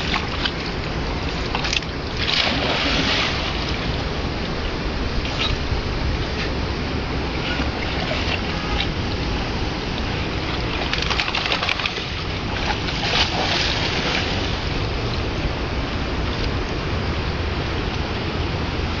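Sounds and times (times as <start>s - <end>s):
water splashing: 0.0s - 16.6s
rushing water noise: 0.0s - 19.0s.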